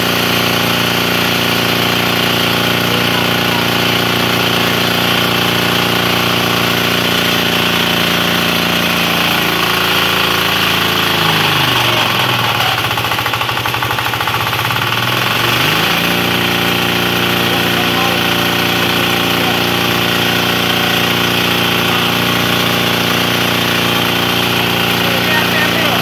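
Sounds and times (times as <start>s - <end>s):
small stationary engine running: 0.0s - 26.0s.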